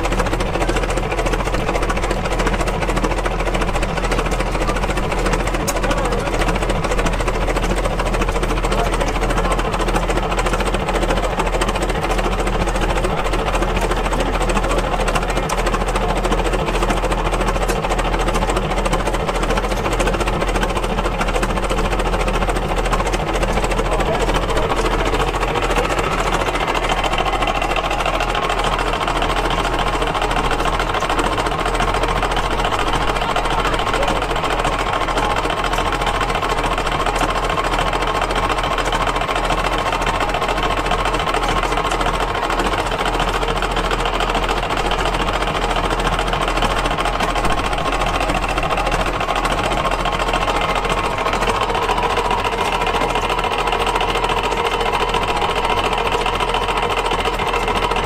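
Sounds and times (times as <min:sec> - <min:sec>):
gasoline engine running: 0:00.0 - 0:58.0.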